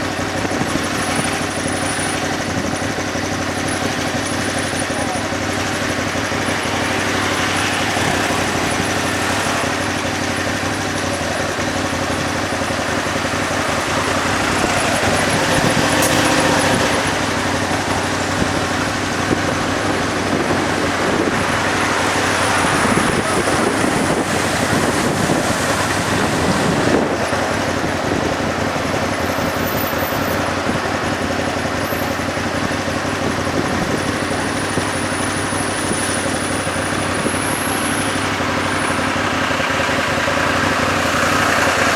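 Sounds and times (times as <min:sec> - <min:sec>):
motorcycle engine running: 0:00.0 - 0:41.9
road and traffic noise: 0:00.0 - 0:41.9.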